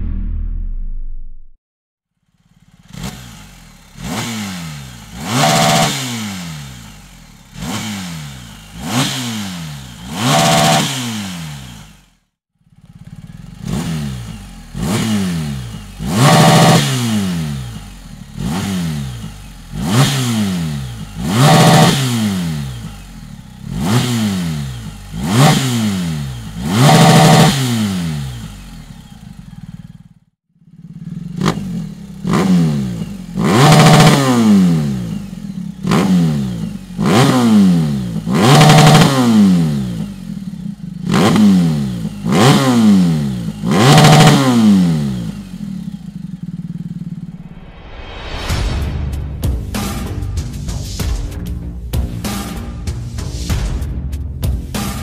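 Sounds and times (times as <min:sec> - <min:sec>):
motorcycle engine revving: 0:02.3 - 0:48.3.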